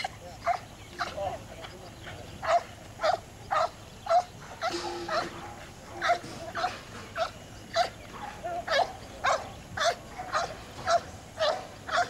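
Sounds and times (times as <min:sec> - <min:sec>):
dog barking: 0:00.4 - 0:01.2, 0:02.4 - 0:12.0.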